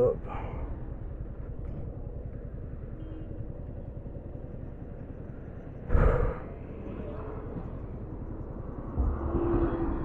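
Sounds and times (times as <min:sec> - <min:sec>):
motorcycle engine idling: 0:00.2 - 0:09.0.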